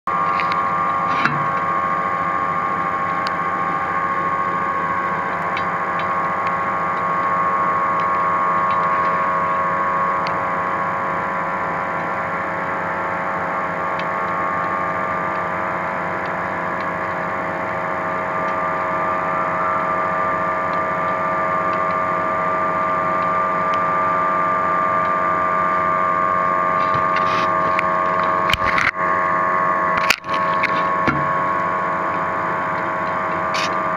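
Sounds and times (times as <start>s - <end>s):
machine hum with low rumble: 0.1s - 33.9s.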